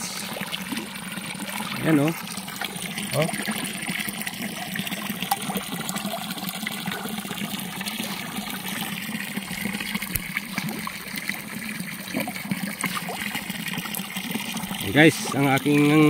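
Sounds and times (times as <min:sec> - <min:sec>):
fish splashing at surface: 0:00.0 - 0:14.8
water rushing into pond: 0:00.0 - 0:16.0.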